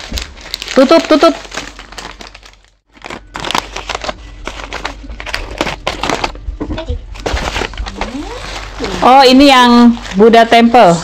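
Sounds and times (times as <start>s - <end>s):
packing paper crinkling: 0.0s - 6.4s, 7.1s - 10.8s.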